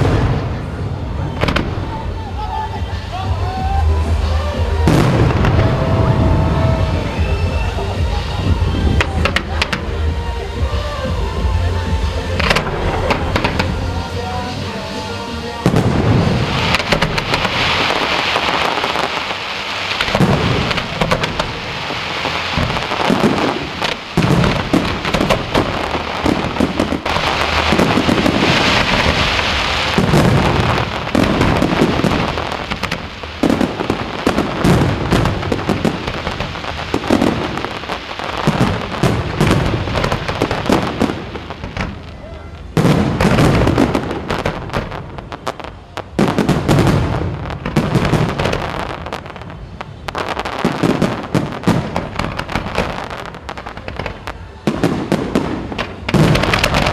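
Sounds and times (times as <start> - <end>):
fireworks booming bursts: 0.0 - 56.9
fireworks crackling: 0.0 - 56.9.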